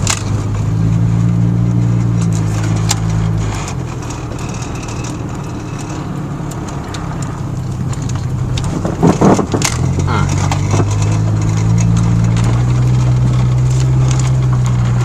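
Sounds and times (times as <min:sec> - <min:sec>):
loud clatter: 0:00.0 - 0:15.0
truck engine humming: 0:00.0 - 0:15.0.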